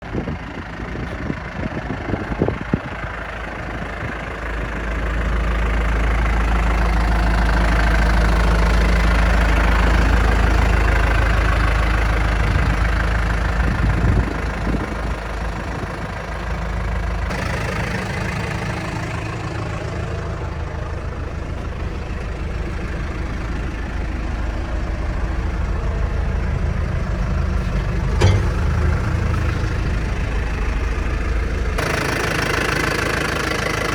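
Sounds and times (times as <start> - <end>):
backhoe diesel engine running: 0.0 - 33.9.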